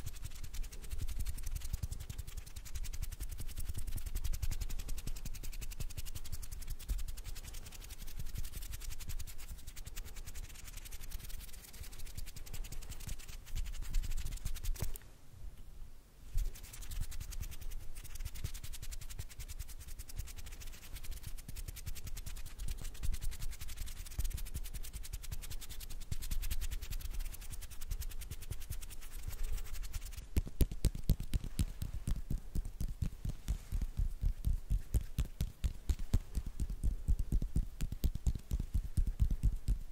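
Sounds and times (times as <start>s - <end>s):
hands rubbing and scratching: 0.0s - 15.0s, 16.3s - 39.9s
sharp fast clicking: 0.0s - 15.0s, 16.4s - 39.9s.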